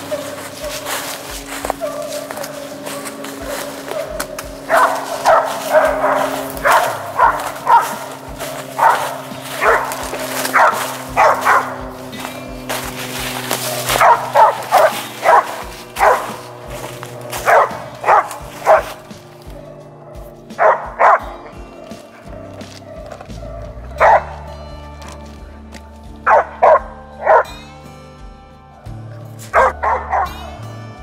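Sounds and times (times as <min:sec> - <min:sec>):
dog barking: 0:00.0 - 0:24.4, 0:26.3 - 0:27.5, 0:29.4 - 0:30.6
background music: 0:00.0 - 0:31.0.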